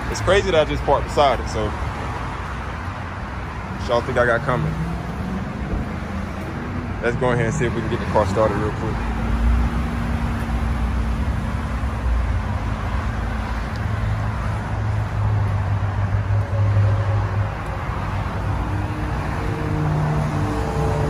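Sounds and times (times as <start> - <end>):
traffic noise: 0.0 - 21.0
vehicle engine rumble: 0.0 - 21.0.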